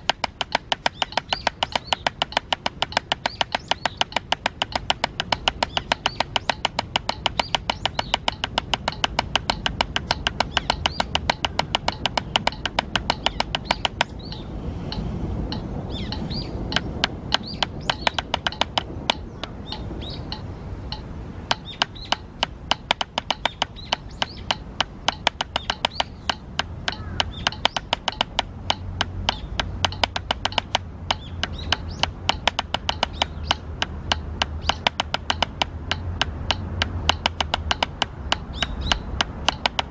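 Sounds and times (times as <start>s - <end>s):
birds chirping: 0.0s - 39.9s
drumsticks tapping practice pad: 0.0s - 39.9s.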